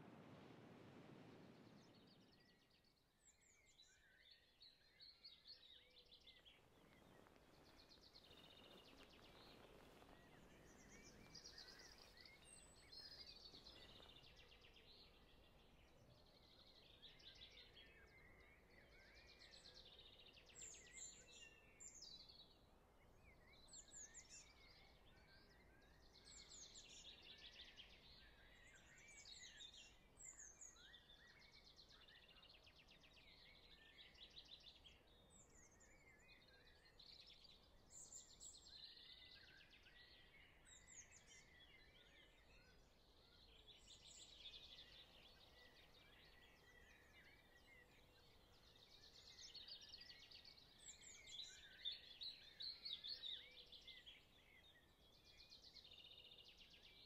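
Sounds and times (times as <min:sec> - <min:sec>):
small birds chirping and trilling: 0:01.4 - 0:57.0.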